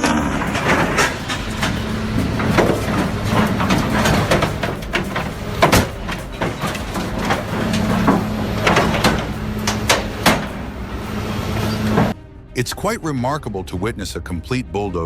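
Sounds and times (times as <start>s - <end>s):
heavy diesel machinery running: 0.0s - 12.2s
metal clanks and bangs: 0.0s - 12.2s.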